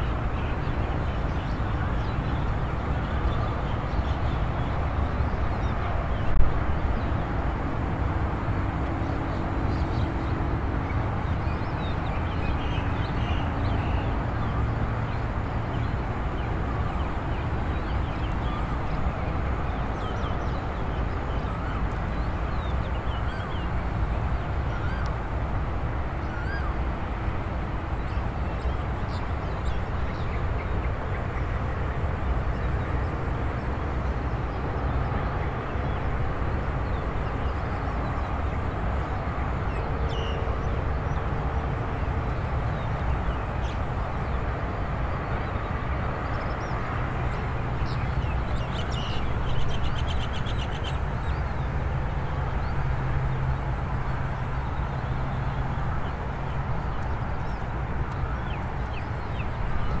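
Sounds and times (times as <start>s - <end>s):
faint distant engine hum: 0.0s - 60.0s.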